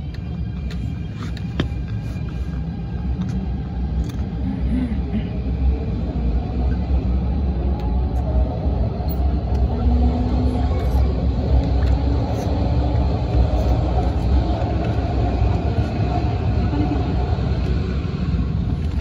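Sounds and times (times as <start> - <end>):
train wheels and motors rumbling: 0.0 - 19.0.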